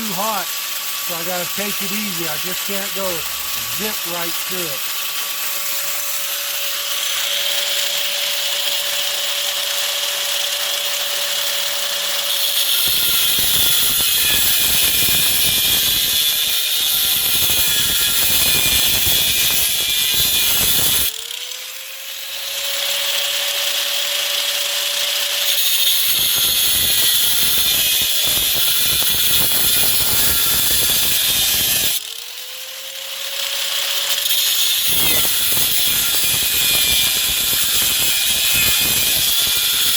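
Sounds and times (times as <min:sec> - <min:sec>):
cut-off wheel grinding metal: 0:00.0 - 0:39.9.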